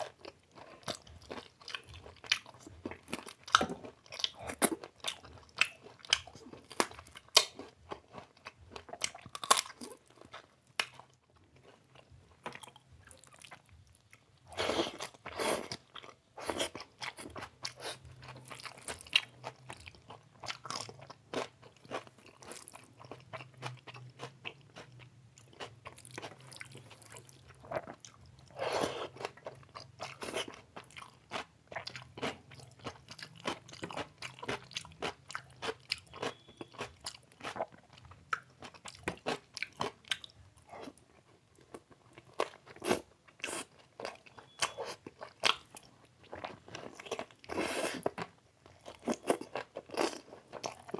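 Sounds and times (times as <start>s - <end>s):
close chewing and biting: 0.0s - 50.9s.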